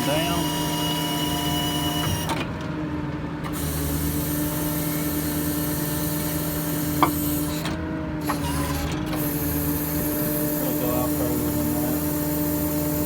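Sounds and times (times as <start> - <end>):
diesel engine running: 0.0 - 13.0
hydraulic pump hum: 0.0 - 13.0.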